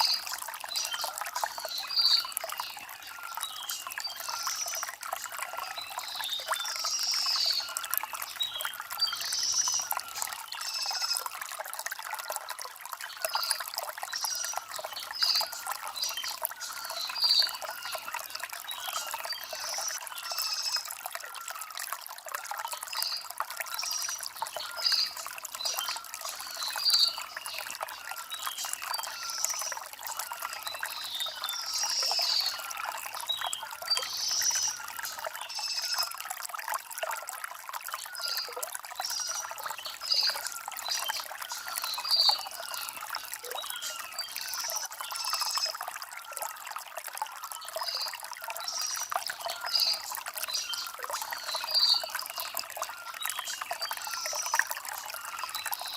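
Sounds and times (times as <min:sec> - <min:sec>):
stream trickling over stones: 0:00.0 - 0:55.9.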